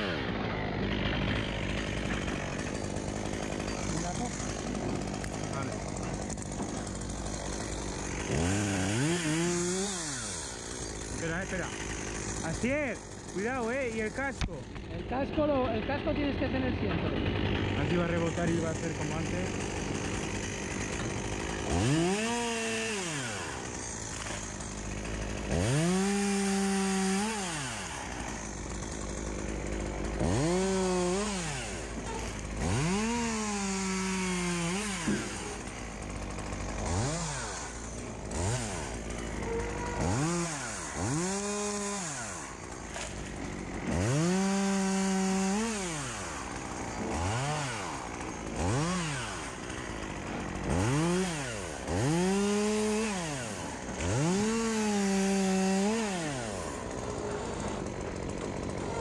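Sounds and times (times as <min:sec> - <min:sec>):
chainsaw revving and cutting wood: 0:00.0 - 0:59.0.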